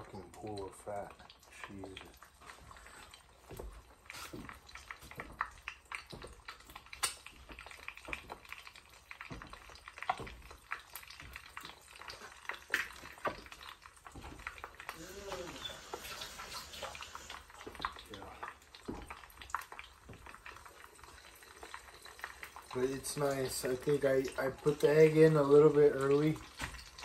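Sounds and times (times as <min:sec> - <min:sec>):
bacon fat crackling and popping: 0:00.0 - 0:27.0
light sizzle: 0:00.0 - 0:27.0.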